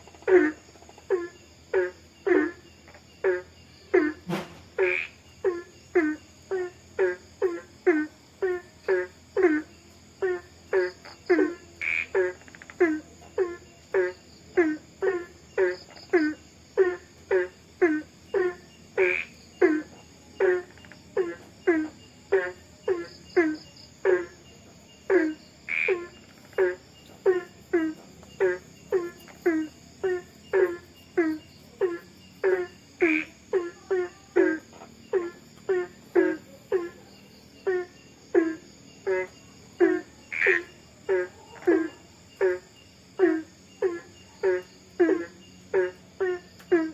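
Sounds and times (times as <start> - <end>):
frog croaking: 0.0 - 46.9
insects trilling: 0.0 - 46.9.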